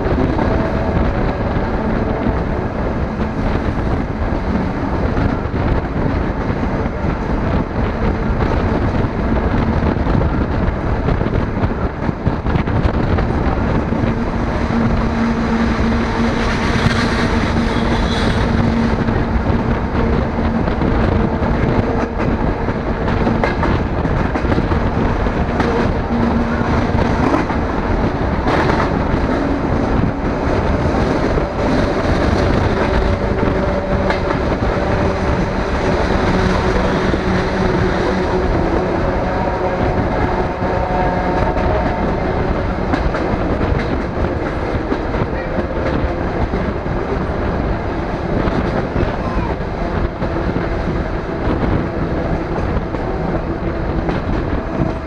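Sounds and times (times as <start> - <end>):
train engine hum: 0.0 - 55.0
wheel and rail noise: 0.0 - 55.0.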